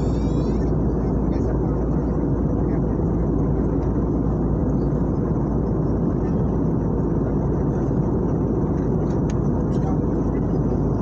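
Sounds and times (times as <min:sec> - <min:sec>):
airliner engines roaring in cabin: 0:00.0 - 0:11.0.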